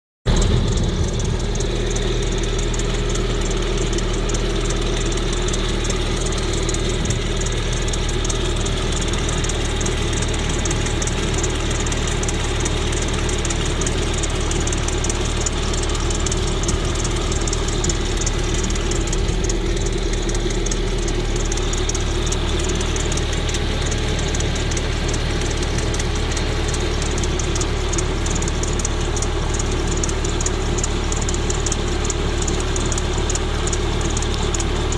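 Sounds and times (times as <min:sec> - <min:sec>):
car engine idling: 0:00.3 - 0:34.9
fast regular engine knock: 0:00.3 - 0:34.9.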